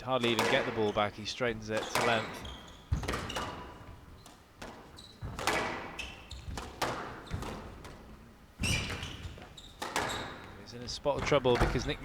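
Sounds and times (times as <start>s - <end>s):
shoes squeaking on court floor: 0.0s - 12.0s
squash ball knocks: 0.2s - 1.0s, 1.6s - 12.0s.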